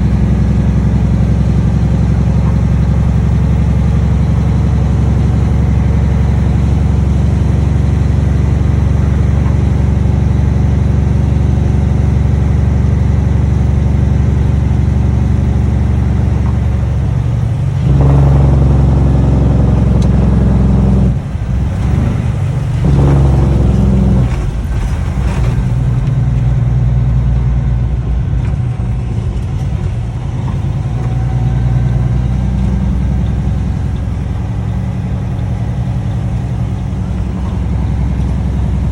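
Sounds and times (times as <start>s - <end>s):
loud diesel engine running: 0.0s - 38.9s.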